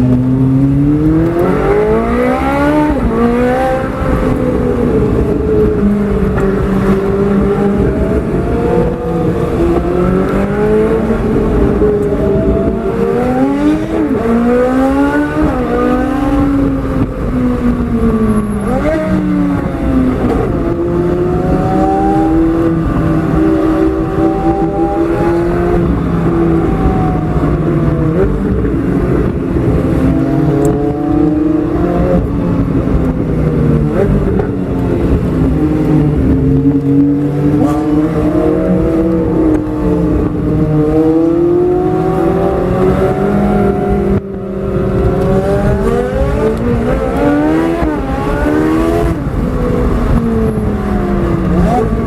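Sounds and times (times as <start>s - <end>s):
sports car exhaust revving: 0.0s - 52.0s.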